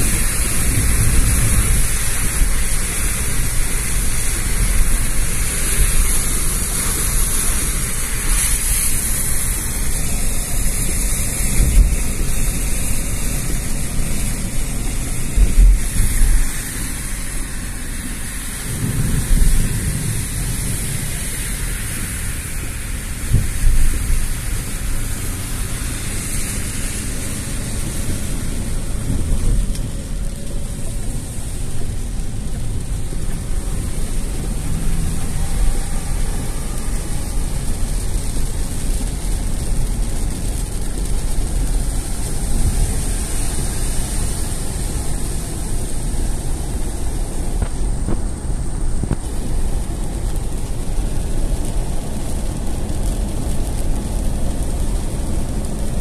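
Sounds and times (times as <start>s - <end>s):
rain and tyres hissing: 0.0s - 56.0s.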